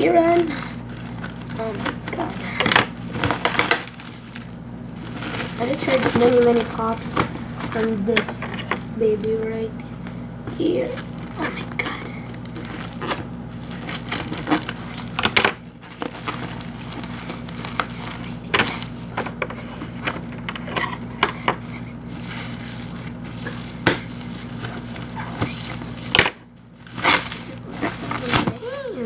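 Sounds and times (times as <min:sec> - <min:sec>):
cardboard parcel being opened: 0:00.0 - 0:09.6, 0:10.5 - 0:29.0
steady low hum: 0:00.0 - 0:29.0.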